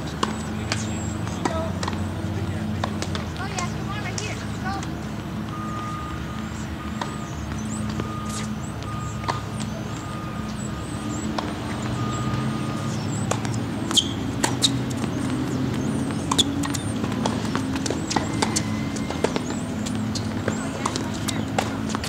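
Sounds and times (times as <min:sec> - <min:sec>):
tennis ball struck by rackets: 0:00.0 - 0:04.4, 0:06.9 - 0:09.8, 0:11.2 - 0:22.0.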